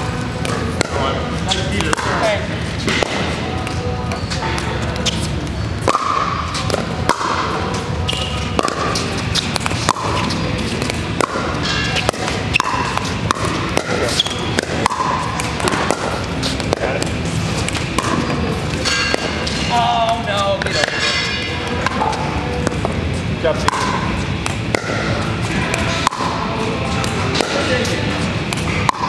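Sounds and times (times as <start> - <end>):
paddles hitting plastic ball: 0.2 - 21.0, 21.6 - 23.0, 23.6 - 29.0.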